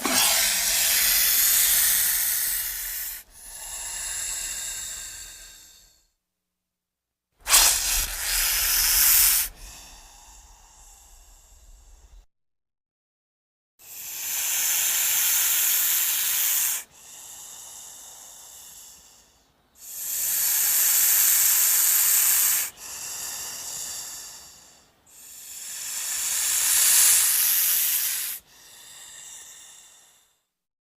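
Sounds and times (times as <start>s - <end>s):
snake hissing: 0.0s - 6.0s, 7.4s - 12.2s, 13.9s - 30.4s.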